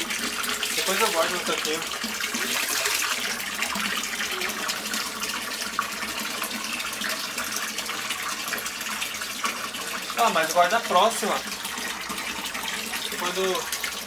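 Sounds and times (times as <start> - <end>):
washing machine pumping out water: 0.0 - 14.0.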